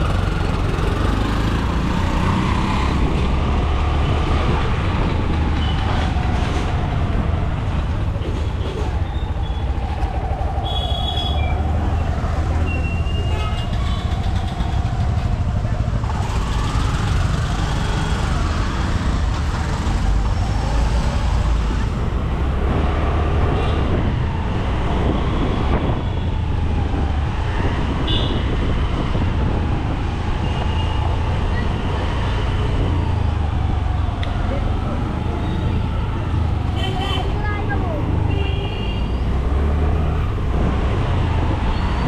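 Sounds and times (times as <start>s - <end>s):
passing vehicle engines: 0.0s - 42.0s.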